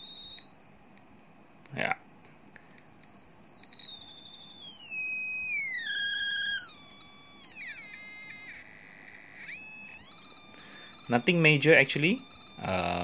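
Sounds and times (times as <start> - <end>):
electronic buzzer tone gliding down: 0.0 - 13.0.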